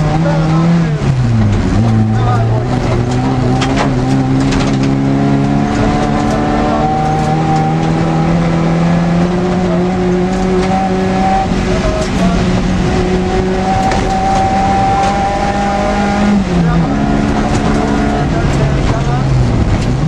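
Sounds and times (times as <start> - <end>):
car engine running hard: 0.0 - 20.0
road and tyre noise: 0.0 - 20.0.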